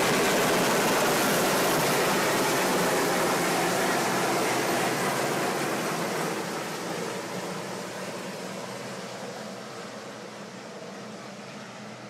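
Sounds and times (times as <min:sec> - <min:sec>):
helicopter rotor and turbine: 0:00.0 - 0:12.0.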